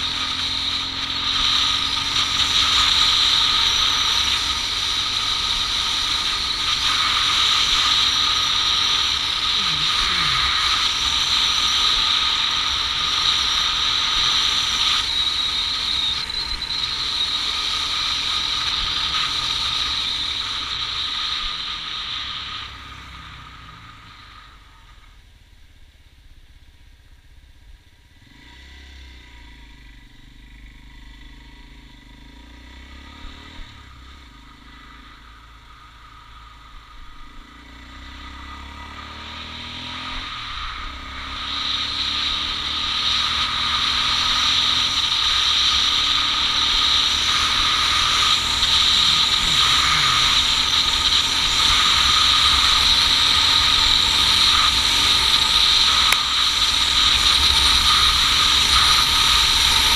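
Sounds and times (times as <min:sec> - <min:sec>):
wind and road rush: 0:00.0 - 0:26.4, 0:27.3 - 0:30.6, 0:31.2 - 0:59.9
motorcycle engine accelerating: 0:00.0 - 0:59.9.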